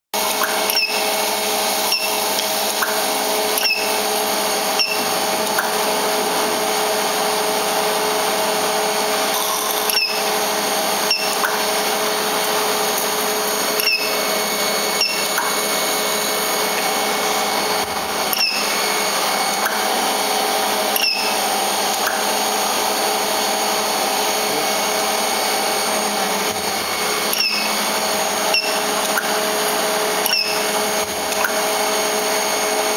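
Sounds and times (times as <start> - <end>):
induction heater hum and whine: 0.2 - 32.9.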